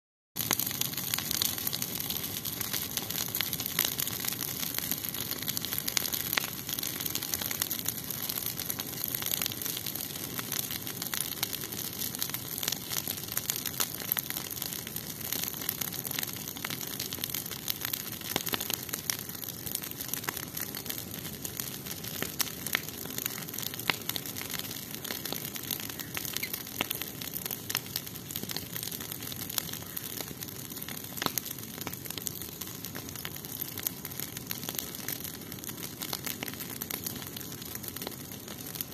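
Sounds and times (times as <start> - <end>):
branches burning and crackling: 0.4 - 38.9.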